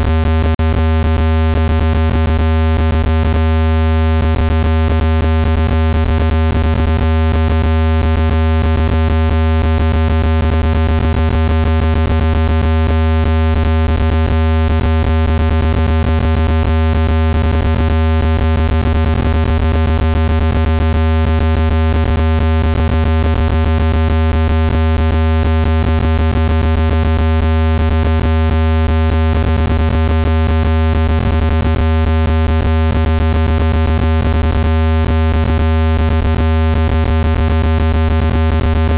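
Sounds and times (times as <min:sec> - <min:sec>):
deep buzzy electronic tone: 0:00.0 - 0:38.9.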